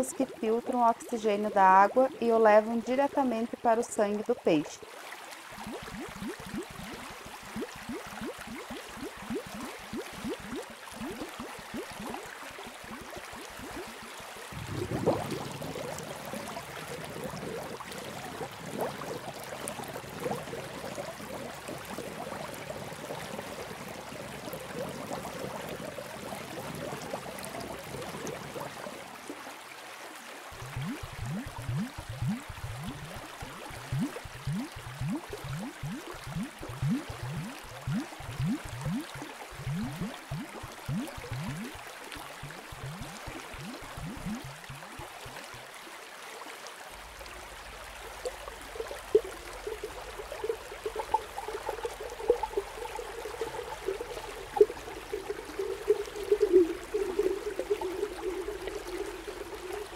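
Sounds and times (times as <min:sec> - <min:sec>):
aquarium water bubbling: 0:00.0 - 0:59.9
rush of water: 0:03.8 - 0:59.9.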